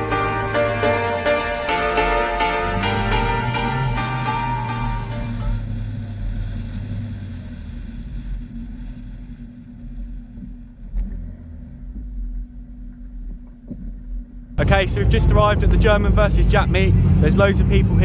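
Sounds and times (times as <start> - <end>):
car engine running: 0.0 - 13.7, 14.4 - 18.0.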